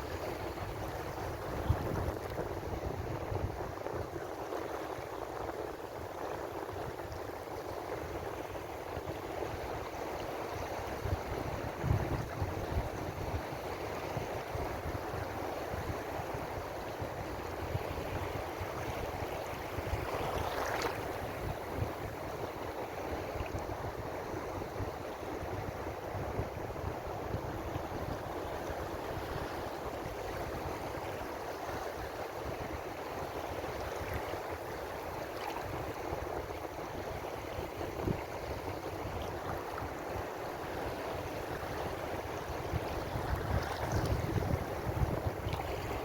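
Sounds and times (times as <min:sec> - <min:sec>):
ocean waves washing on shore: 0:00.0 - 0:46.0.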